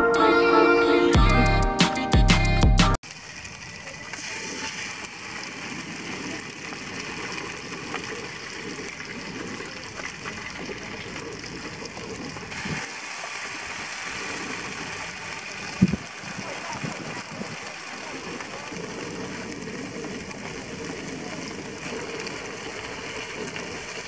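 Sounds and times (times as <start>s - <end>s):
patties sizzling in oil: 3.0s - 24.0s.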